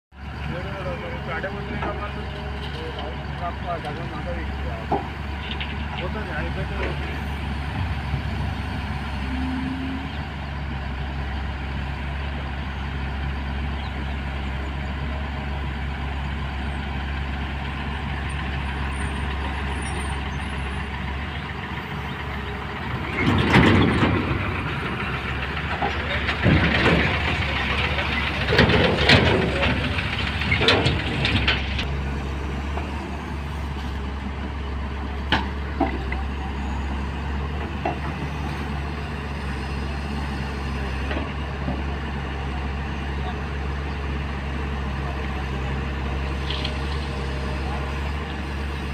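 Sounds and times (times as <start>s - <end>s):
excavator diesel engine running: 0.2s - 48.9s.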